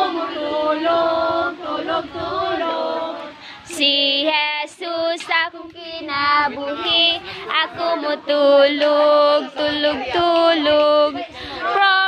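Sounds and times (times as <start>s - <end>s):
children singing together: 0.0s - 12.0s
high singing voice: 0.0s - 12.0s.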